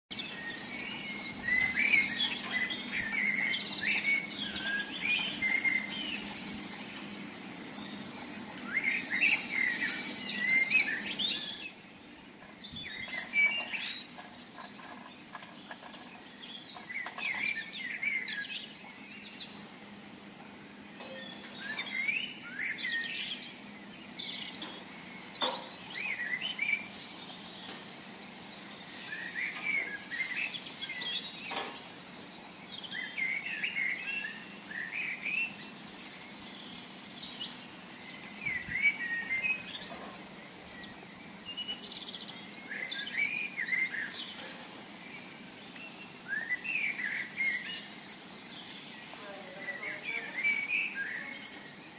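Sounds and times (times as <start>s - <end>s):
small birds chirping and singing: 0.1s - 51.9s.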